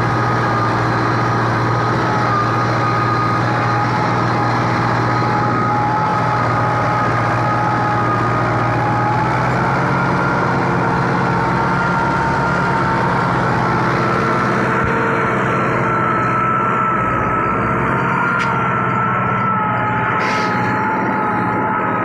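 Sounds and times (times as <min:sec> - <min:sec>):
high whine: 0:00.0 - 0:22.0
tractor diesel engine running: 0:00.0 - 0:22.0.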